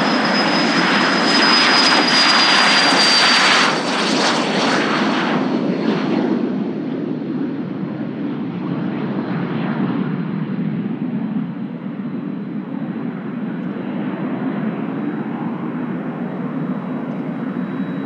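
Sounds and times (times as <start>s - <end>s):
high jet engine whine: 0.0s - 18.0s
jet taking off: 0.0s - 18.0s.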